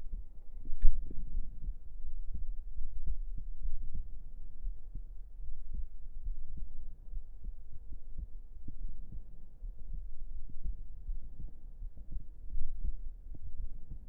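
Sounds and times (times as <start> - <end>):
heartbeat thumps: 1.0 - 14.0.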